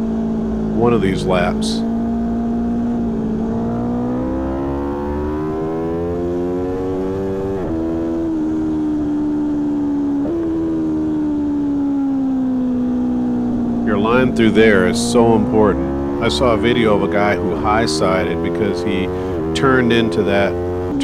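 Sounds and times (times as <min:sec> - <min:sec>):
motorcycle engine revving hard: 0:00.0 - 0:21.0.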